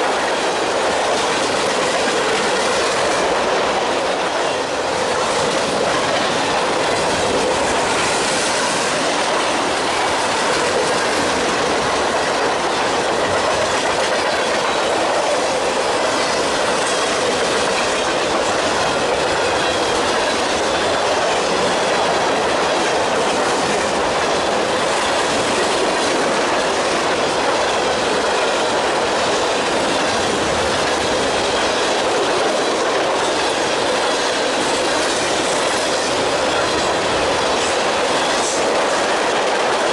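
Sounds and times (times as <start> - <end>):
steel wheels rolling on rails: 0.0 - 39.9.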